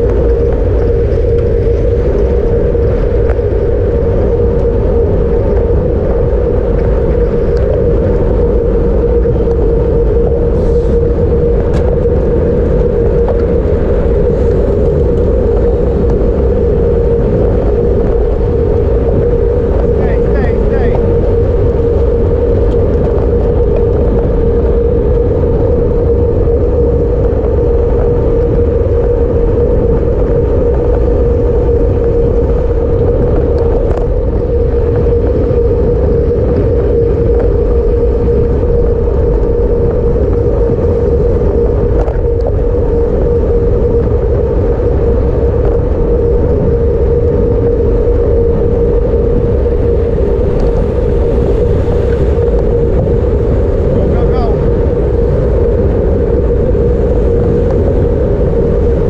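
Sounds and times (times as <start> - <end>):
constant hum: 0.0 - 59.0
road noise: 0.0 - 59.0
wind rushing: 0.0 - 59.0.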